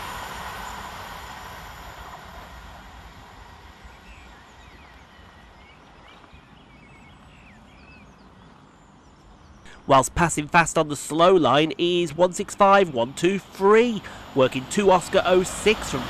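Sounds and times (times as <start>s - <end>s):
electric train rumble: 0.0s - 8.1s, 9.6s - 16.0s
birds chirping: 1.8s - 16.0s.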